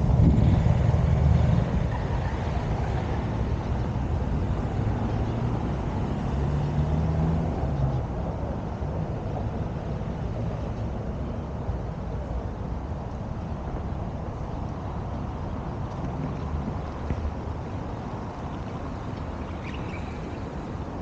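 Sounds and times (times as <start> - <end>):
engine hum: 0.0 - 21.0
traffic rumble: 0.0 - 21.0.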